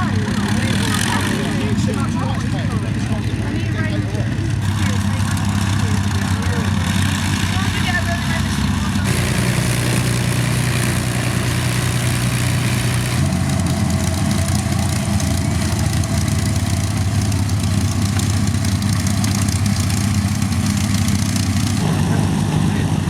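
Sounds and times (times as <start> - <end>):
piston aircraft engines running: 0.0 - 23.0.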